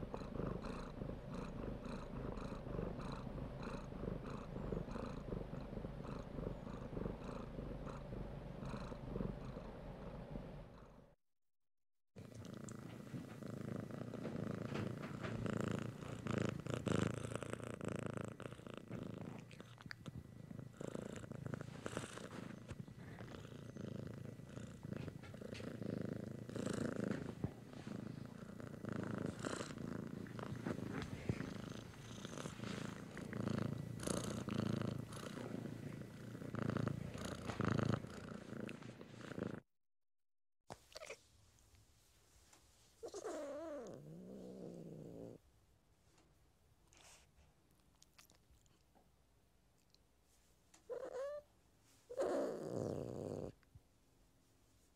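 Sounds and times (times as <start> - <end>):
cat purring: 0.0 - 11.2, 12.2 - 39.7, 42.9 - 45.5, 49.8 - 53.7.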